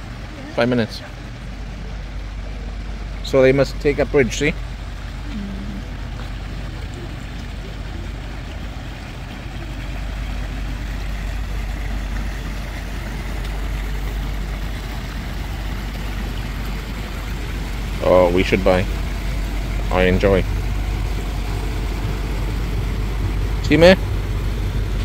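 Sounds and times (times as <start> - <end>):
boat engine rumbling: 0.0 - 25.0.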